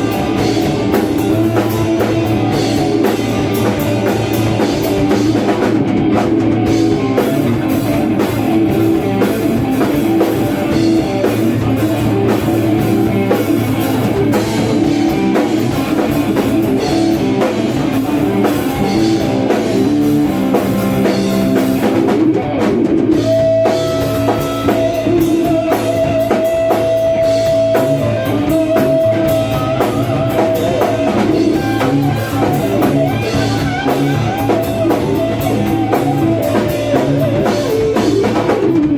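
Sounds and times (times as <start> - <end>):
drum kit: 0.0 - 38.9
electric guitar playing rock: 0.0 - 38.9.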